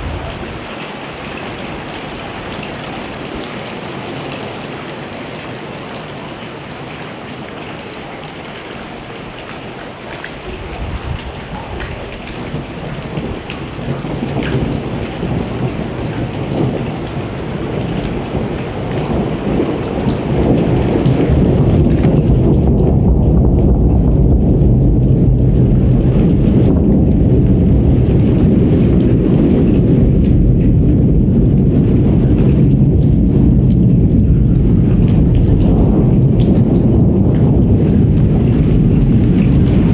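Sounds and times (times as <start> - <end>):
thunder rumbling: 0.0 - 5.0, 8.0 - 39.9
heavy rain falling: 0.0 - 39.9.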